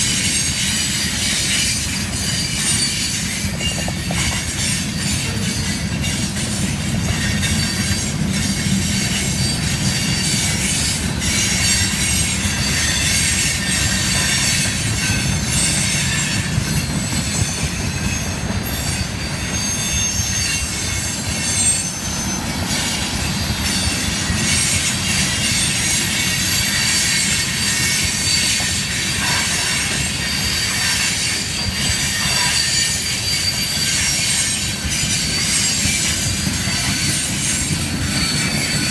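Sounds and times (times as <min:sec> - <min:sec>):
clicks of train wheels: 0:00.0 - 0:38.9
freight train wheels rumbling: 0:00.0 - 0:38.9
high-pitched wheel squeal: 0:00.0 - 0:38.9.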